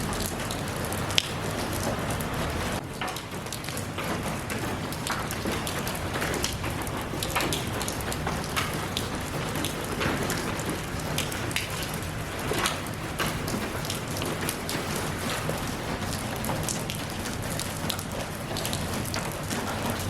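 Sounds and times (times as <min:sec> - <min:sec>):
raindrops ticking: 0:00.0 - 0:20.0.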